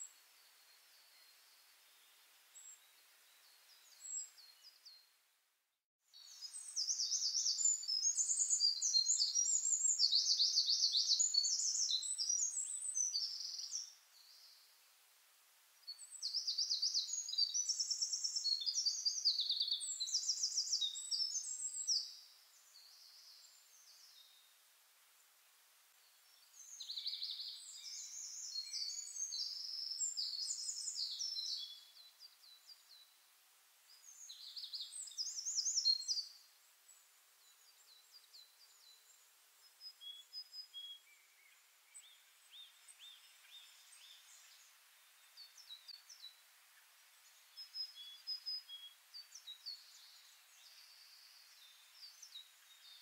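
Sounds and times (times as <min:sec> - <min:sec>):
faint hiss: 0:00.0 - 0:53.0.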